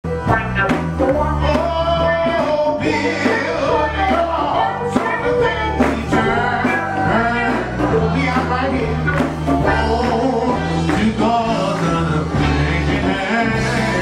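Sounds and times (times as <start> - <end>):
bass guitar: 0.0 - 14.0
keyboard: 0.0 - 14.0
steady beat: 0.1 - 12.6
man singing gospel: 1.3 - 14.0.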